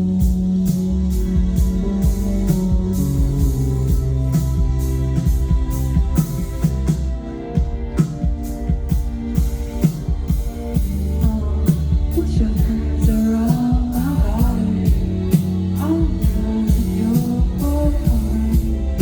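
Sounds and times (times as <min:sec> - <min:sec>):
person singing: 0:00.0 - 0:07.6, 0:10.5 - 0:19.0
electronic pop music: 0:00.0 - 0:19.0.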